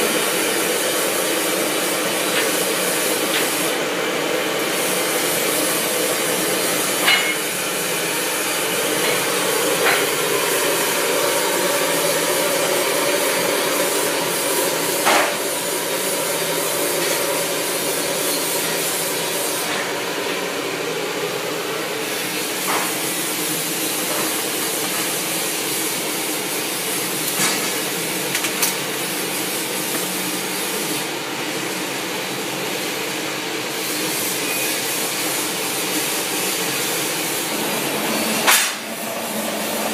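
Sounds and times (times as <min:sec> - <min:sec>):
gas burner flame hissing: 0:00.0 - 0:39.9.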